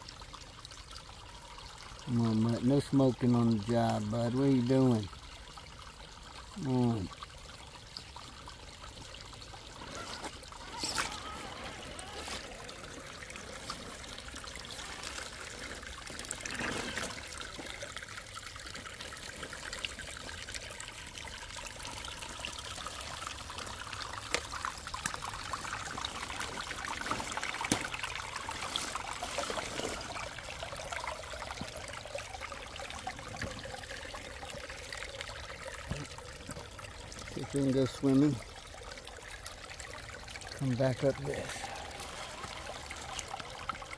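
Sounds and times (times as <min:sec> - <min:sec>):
water trickling over rocks: 0:00.0 - 0:43.9.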